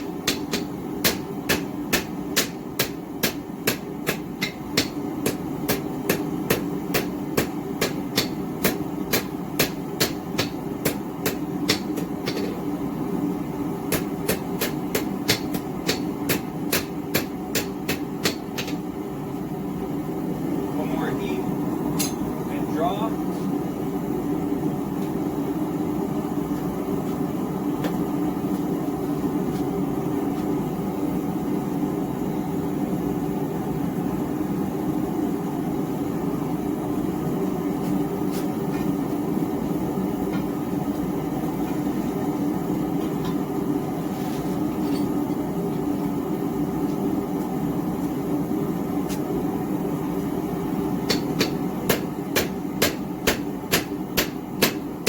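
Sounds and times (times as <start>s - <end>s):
gas forge burner roaring: 0.0s - 55.0s.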